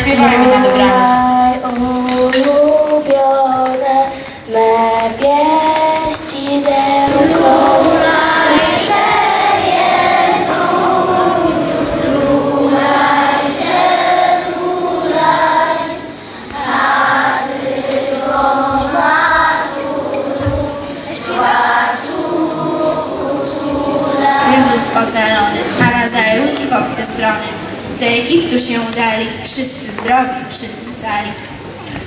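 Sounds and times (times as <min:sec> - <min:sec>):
group of young voices singing: 0:00.0 - 0:26.7.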